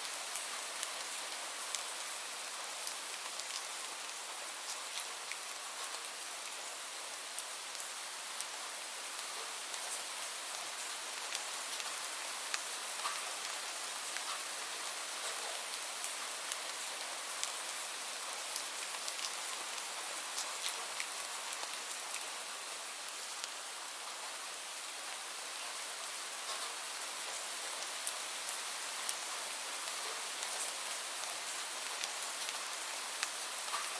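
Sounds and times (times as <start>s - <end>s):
raindrops ticking on a surface: 0.1s - 33.9s.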